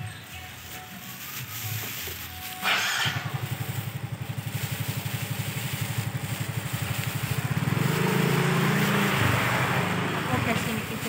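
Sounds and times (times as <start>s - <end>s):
motorcycle engine running: 0.0s - 11.0s
plastic bag rustling: 0.0s - 11.0s.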